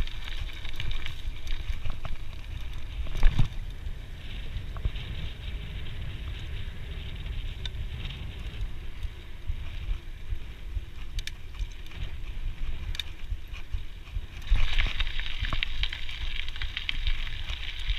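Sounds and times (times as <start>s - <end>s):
bike drivetrain rattle: 0.0s - 17.9s
bike tyres on gravel: 0.0s - 17.9s
bike tyres on wooden boards: 0.0s - 17.9s
wind rumble on microphone: 0.0s - 17.9s.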